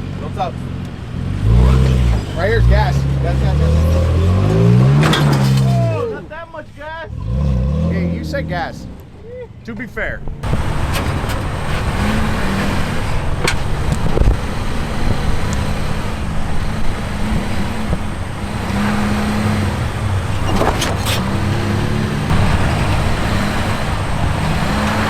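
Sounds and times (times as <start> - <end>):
off-road vehicle engine: 0.0 - 25.0.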